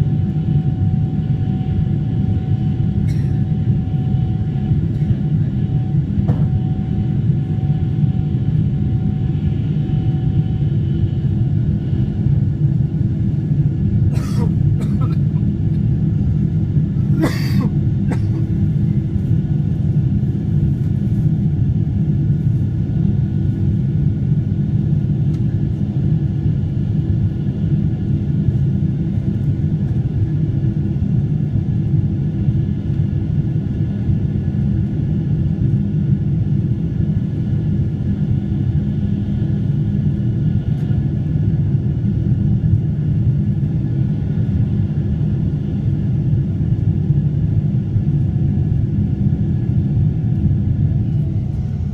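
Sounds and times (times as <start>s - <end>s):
jet engine low rumble: 0.0s - 51.9s.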